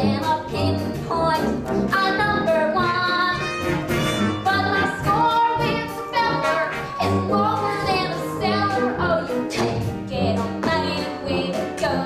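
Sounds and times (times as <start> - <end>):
instrumental accompaniment: 0.0 - 12.0
woman singing: 0.0 - 12.0.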